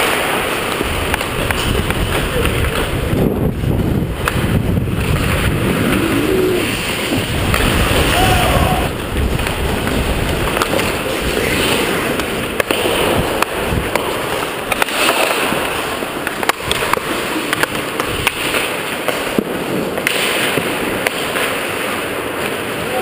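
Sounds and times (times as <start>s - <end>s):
sticks and puck clacking: 0.0s - 3.2s, 4.1s - 23.0s
skates scraping ice: 0.0s - 23.0s
steady rush of noise: 0.0s - 23.0s.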